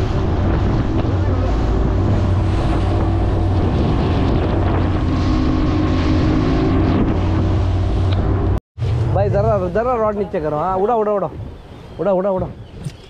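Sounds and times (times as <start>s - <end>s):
boat engine humming: 0.0s - 12.6s
water rushing along hull: 0.0s - 13.0s
wind buffeting microphone: 0.0s - 13.0s.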